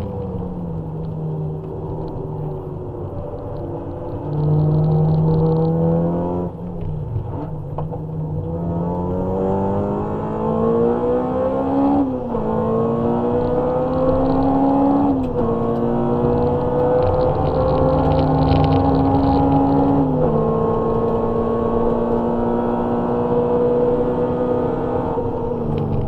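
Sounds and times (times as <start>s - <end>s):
car engine revving: 0.0s - 7.6s, 8.3s - 26.0s.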